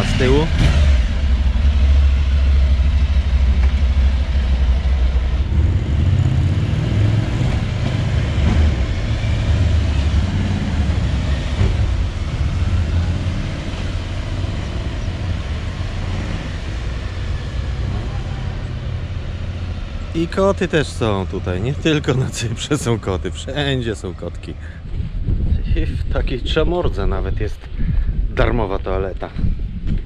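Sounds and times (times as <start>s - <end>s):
motorcycle engines rumbling: 0.0s - 30.0s.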